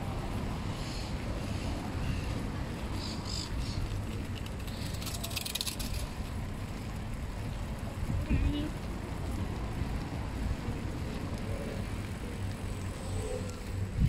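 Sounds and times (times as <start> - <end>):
city street ambience: 0.0 - 14.0
wind rumble on microphone: 0.0 - 14.0.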